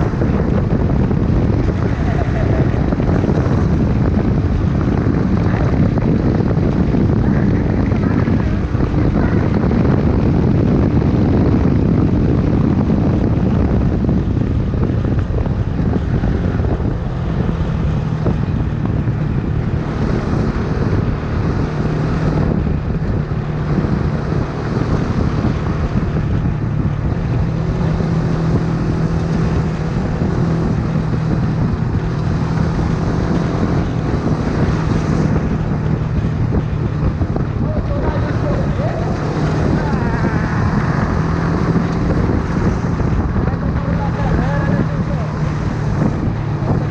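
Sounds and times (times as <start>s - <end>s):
motorcycle engine running: 0.0s - 46.9s
wind noise on microphone: 0.0s - 46.9s.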